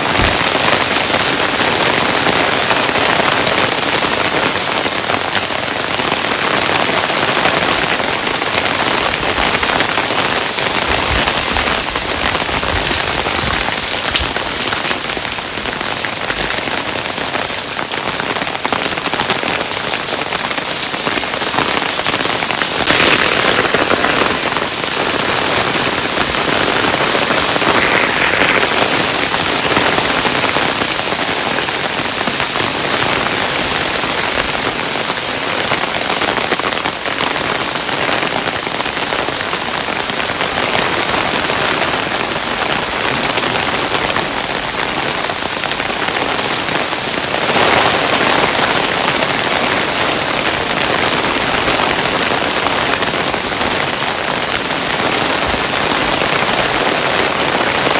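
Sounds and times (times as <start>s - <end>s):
hailstones falling: 0.0s - 57.9s.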